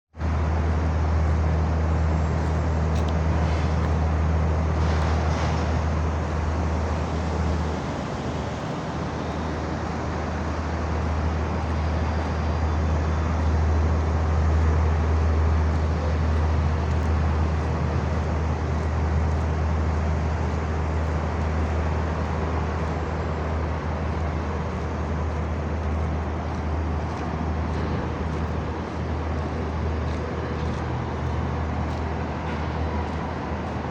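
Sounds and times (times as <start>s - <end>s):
low rumble of traffic: 0.1s - 33.9s
deep drone: 0.2s - 33.9s.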